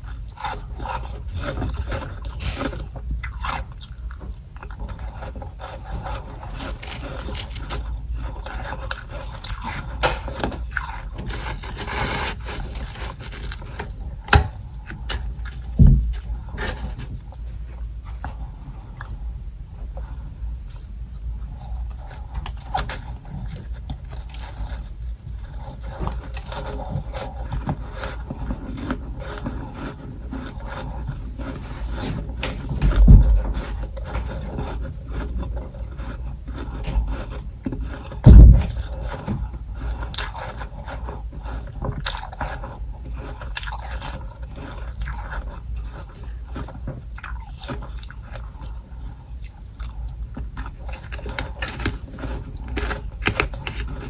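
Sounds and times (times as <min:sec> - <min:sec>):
frost crunching and scraping: 0:00.0 - 0:54.0.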